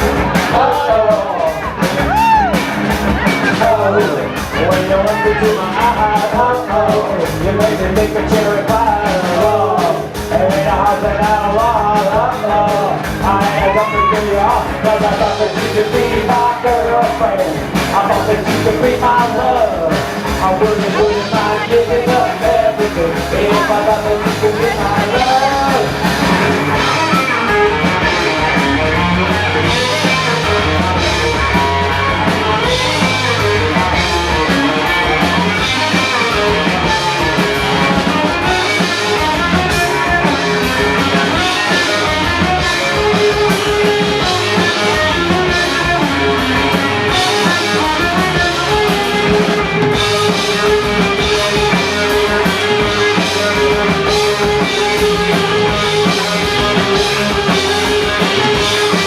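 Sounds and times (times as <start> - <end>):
instrumental rock music: 0.0 - 59.0.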